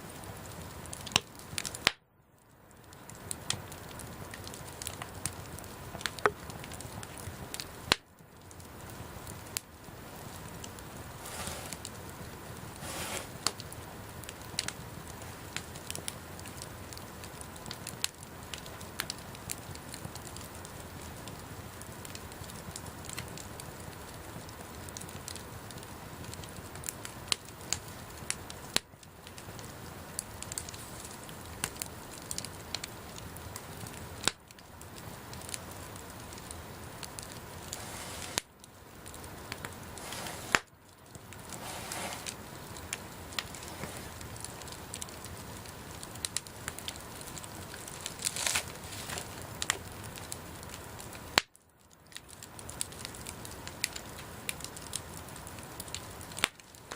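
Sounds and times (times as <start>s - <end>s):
bonfire crackles and pops: 0.0s - 56.9s
bonfire hiss: 2.7s - 51.5s.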